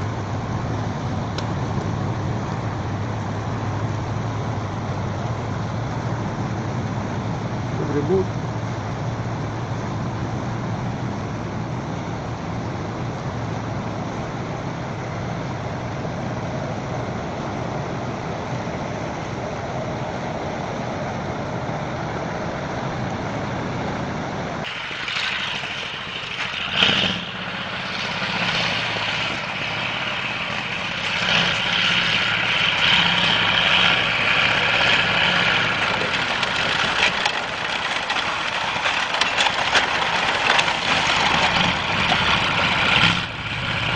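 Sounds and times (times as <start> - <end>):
heavy truck engine running: 0.0 - 43.9
noisy bright vehicle sound: 0.0 - 43.9.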